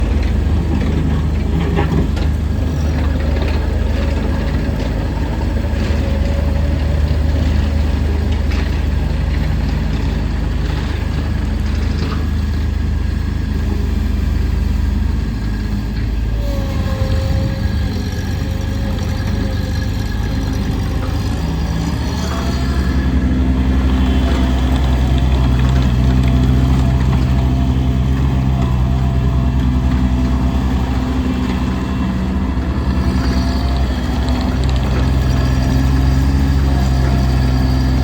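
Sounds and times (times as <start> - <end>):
loader engine running: 0.0 - 38.0.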